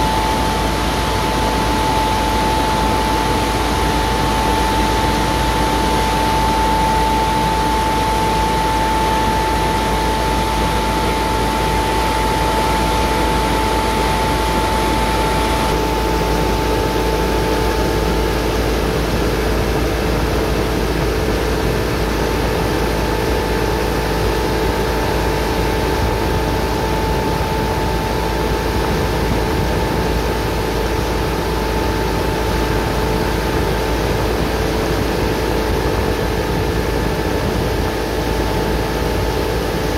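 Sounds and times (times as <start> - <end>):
industrial fan running with whine: 0.0 - 39.9.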